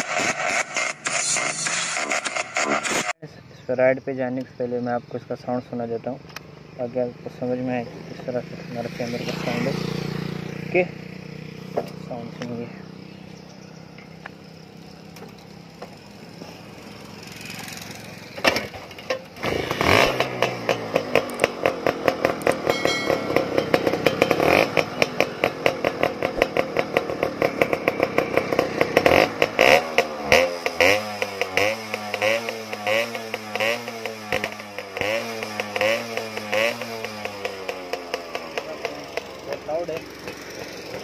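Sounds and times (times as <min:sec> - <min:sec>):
two-stroke motorcycle engine revving: 0:00.0 - 0:03.2, 0:05.5 - 0:41.0.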